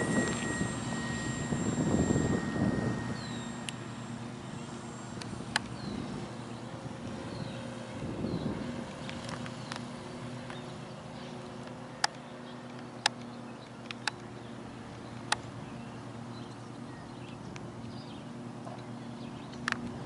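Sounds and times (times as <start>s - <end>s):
model airplane motor humming: 0.0s - 20.0s.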